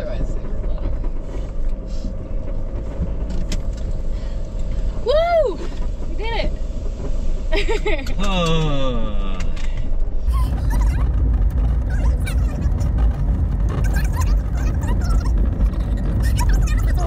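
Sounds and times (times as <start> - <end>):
van rumbling on gravel road: 0.0 - 17.0.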